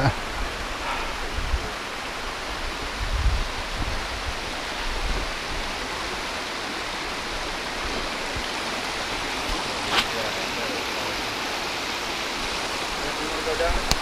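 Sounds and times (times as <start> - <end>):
creek rushing over rock: 0.0 - 14.0.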